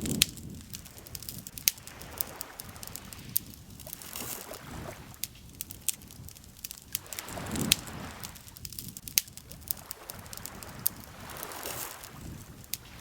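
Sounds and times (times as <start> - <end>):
campfire crackling and popping: 0.0 - 13.0
lake water lapping: 0.0 - 13.0.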